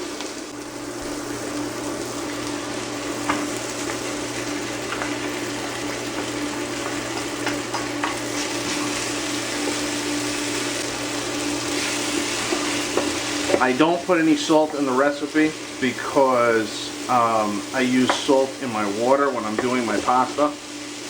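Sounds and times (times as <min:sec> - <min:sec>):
food sizzling in frying pan: 0:00.0 - 0:21.0.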